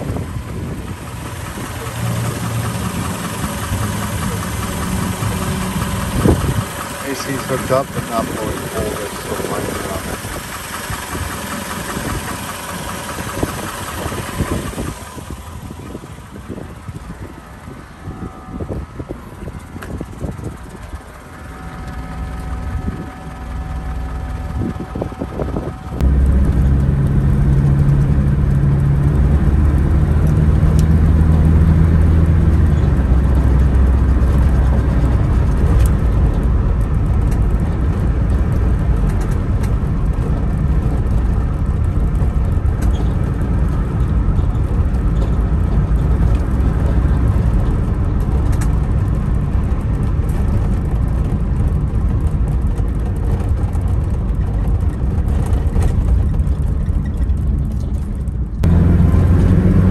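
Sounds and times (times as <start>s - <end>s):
car engine drone: 0.0s - 59.9s
road noise inside car: 0.0s - 59.9s.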